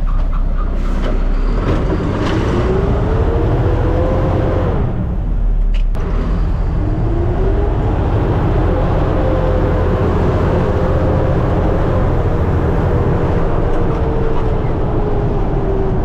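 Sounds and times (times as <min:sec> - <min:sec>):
garbage truck engine rumbling: 0:00.0 - 0:16.0.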